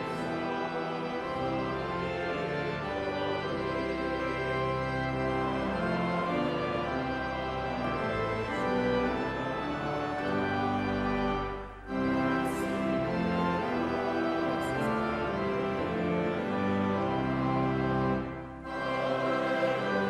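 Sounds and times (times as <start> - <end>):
organ playing held chords: 0.0 - 20.0.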